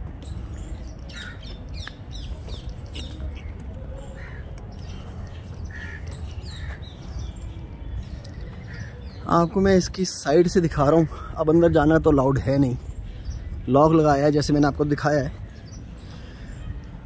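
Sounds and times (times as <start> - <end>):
birds chirping: 0.0 - 17.0
steady low rumble: 0.0 - 17.0
harsh bird calls: 0.2 - 16.7.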